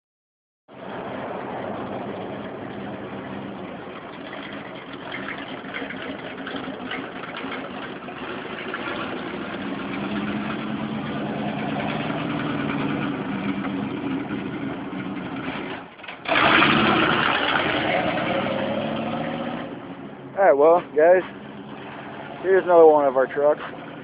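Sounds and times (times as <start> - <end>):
truck engine idling: 0.8 - 16.4, 19.8 - 24.0.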